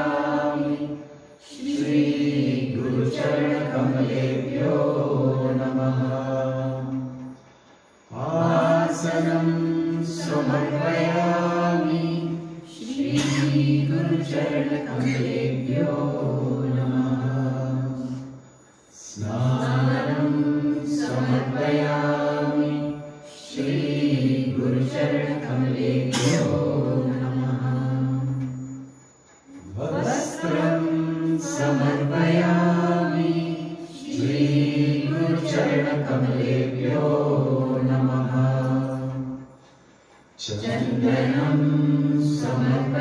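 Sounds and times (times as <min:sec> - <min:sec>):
mantras chanted: 0:00.0 - 0:43.0.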